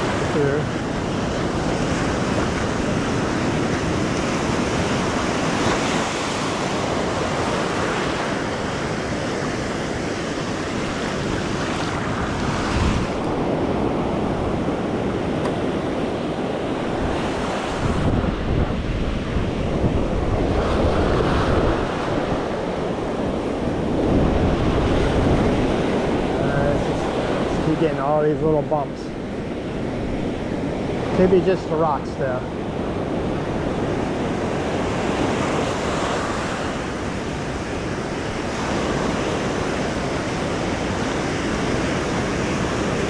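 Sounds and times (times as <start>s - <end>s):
ocean surf breaking on beach: 0.0s - 43.0s
wind rumbling on microphone: 0.0s - 43.0s.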